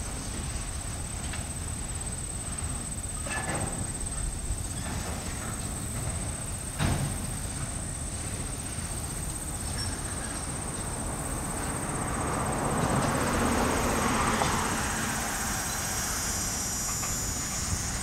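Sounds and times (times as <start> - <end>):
freight cars rumbling past: 0.0 - 18.0.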